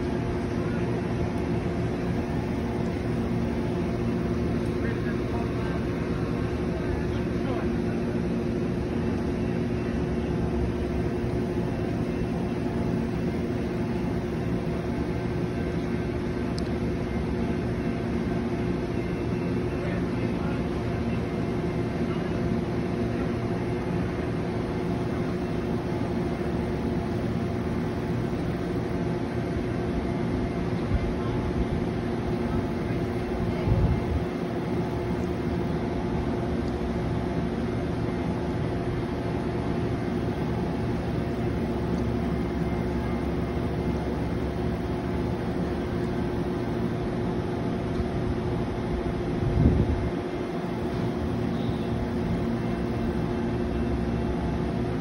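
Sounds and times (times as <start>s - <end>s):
passenger train passing slowly: 0.0s - 55.0s.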